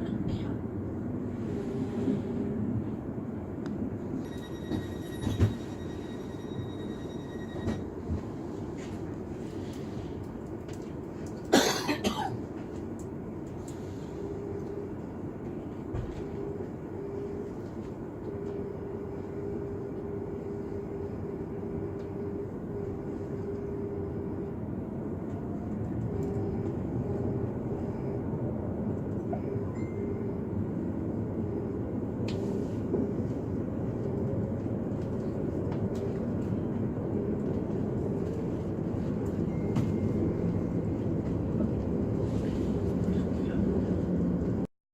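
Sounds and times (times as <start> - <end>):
train wheels rumbling on rails: 0.0 - 18.6, 24.4 - 44.6.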